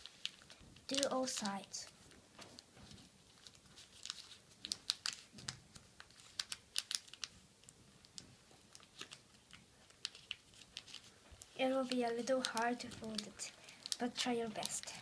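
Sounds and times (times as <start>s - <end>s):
paper folding crackles: 0.0s - 15.0s.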